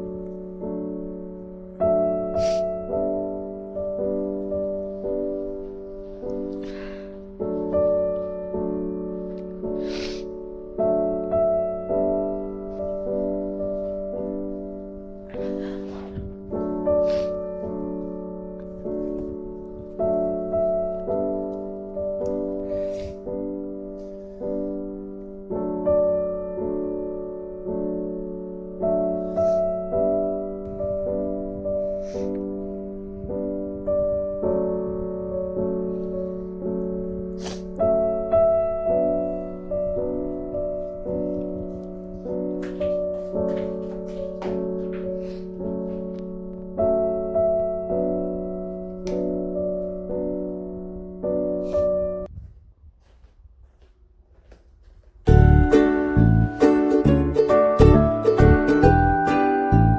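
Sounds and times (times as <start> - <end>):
gentle piano piece: 0.0 - 52.4, 55.2 - 59.9.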